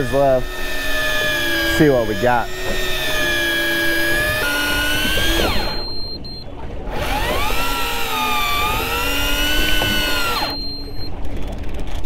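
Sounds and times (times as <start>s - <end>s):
electric fishing reel motor whining: 0.0s - 6.2s, 6.9s - 11.1s.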